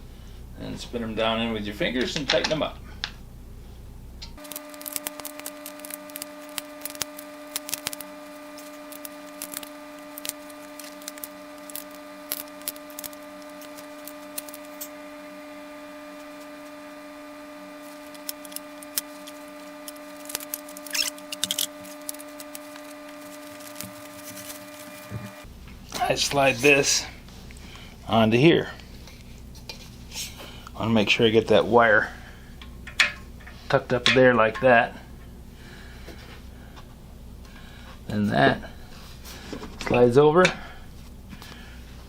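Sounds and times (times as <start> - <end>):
steady electrical hum: 0.0 - 42.0.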